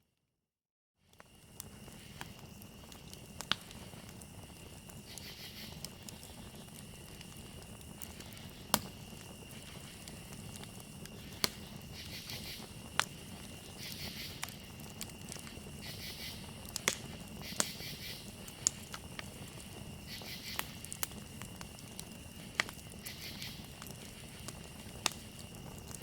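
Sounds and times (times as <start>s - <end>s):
campfire crackling: 1.0s - 26.0s
crickets trilling: 1.0s - 26.0s
fire pops: 1.1s - 26.0s
fast insect chirping: 4.4s - 25.4s.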